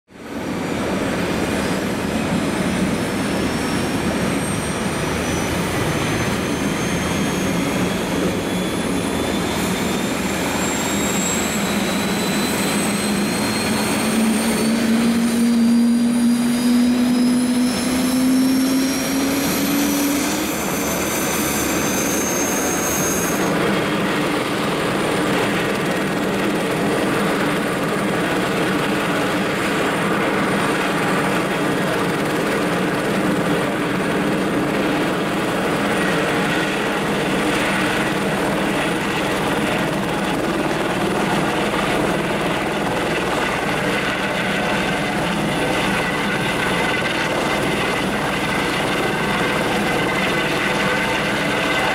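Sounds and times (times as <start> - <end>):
helicopter running on ground: 0.1 - 51.9
helicopter turbine whine: 0.1 - 51.9
low rotor hum: 0.4 - 51.9.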